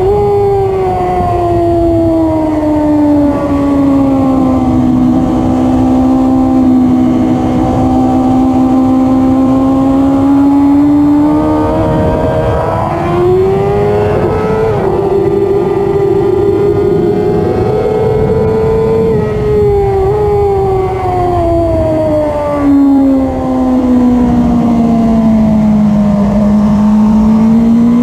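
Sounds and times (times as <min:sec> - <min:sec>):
motorcycle engine at track pace: 0:00.0 - 0:28.0
wind and road noise: 0:00.0 - 0:28.0.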